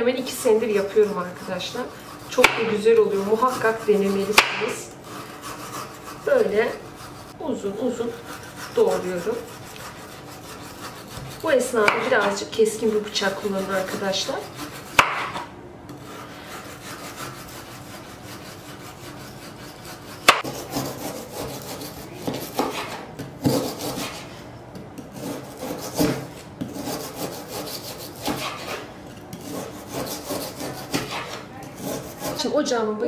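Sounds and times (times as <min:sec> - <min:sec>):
knife rasping through frozen meat: 0:00.2 - 0:24.4, 0:25.0 - 0:32.6.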